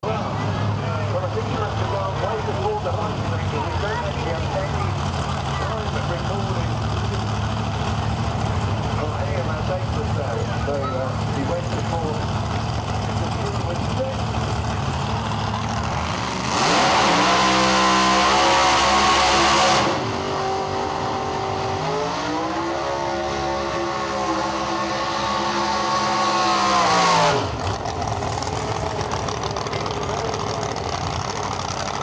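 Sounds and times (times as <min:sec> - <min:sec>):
car engine revving at high revs: 0:01.2 - 0:32.0.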